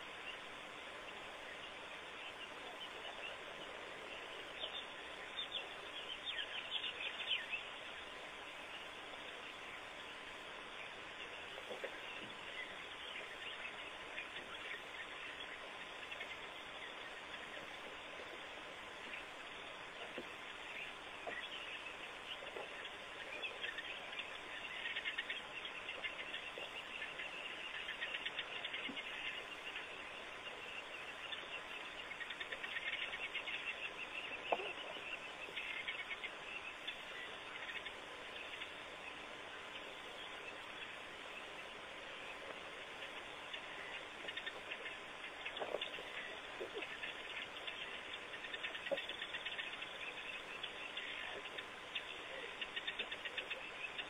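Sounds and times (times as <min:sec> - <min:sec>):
faint constant hum: 0:00.0 - 0:54.0
steady hiss: 0:00.0 - 0:54.0.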